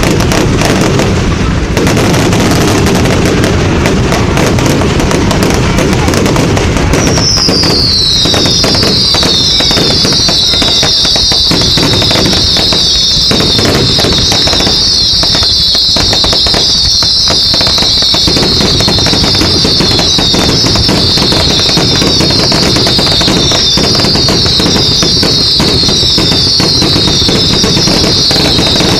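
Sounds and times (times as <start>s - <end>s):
fireworks crackling and banging: 0.0s - 28.9s
fireworks whistling: 0.0s - 28.9s.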